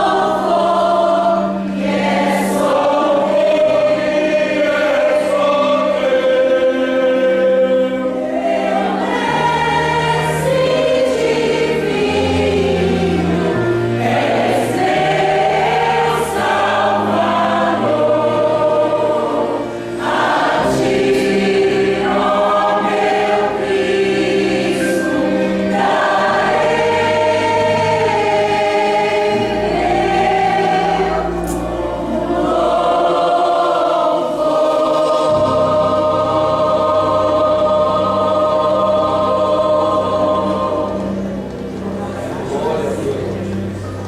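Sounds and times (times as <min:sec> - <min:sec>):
accompaniment with held bass notes: 0:00.0 - 0:44.0
choir singing: 0:00.0 - 0:44.0.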